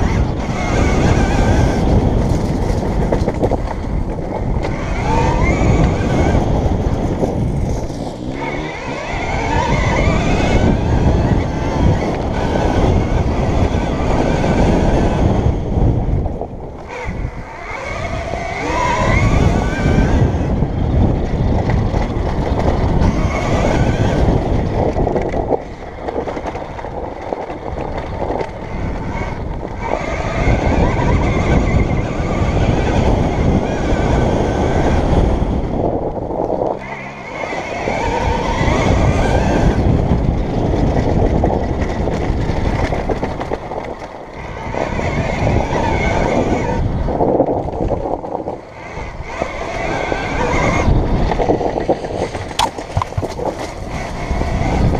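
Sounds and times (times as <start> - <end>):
electric motor whine: 0.0 - 26.7, 28.0 - 54.9
bike rumbling over rough ground: 0.0 - 54.9
wind buffeting microphone: 0.0 - 54.9.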